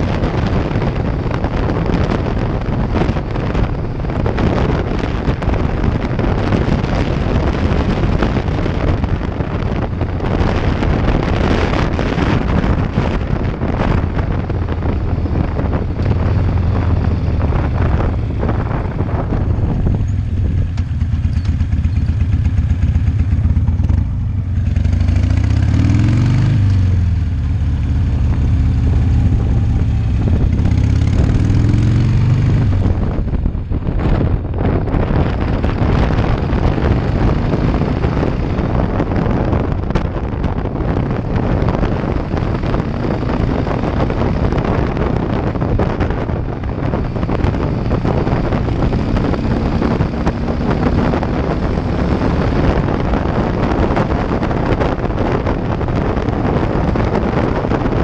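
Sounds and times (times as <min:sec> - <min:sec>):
motorcycle engine accelerating: 0:00.0 - 0:58.0
wind rushing over microphone: 0:00.0 - 0:58.0.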